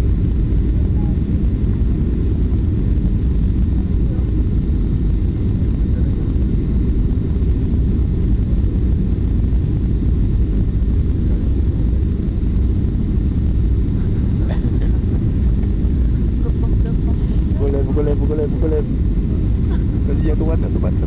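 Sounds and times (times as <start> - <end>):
airliner engines rumbling: 0.0 - 21.0
rushing air: 0.0 - 21.0.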